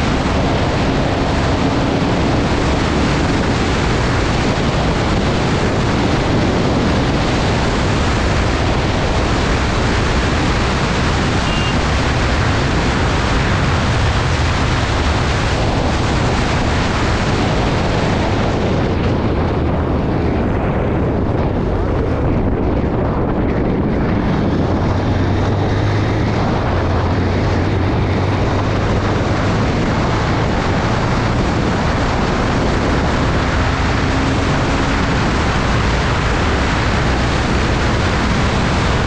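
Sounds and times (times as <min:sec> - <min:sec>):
heavy wind rush on microphone: 0:00.0 - 0:39.0.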